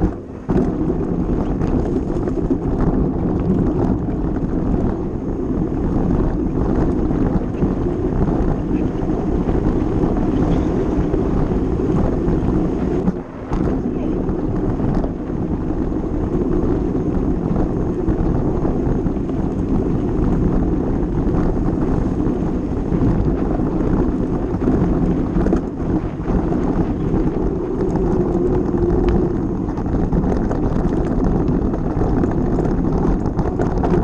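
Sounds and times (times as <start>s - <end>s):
bike tyres rumbling on dirt trail: 0.0s - 34.0s
wind buffeting microphone: 0.0s - 34.0s.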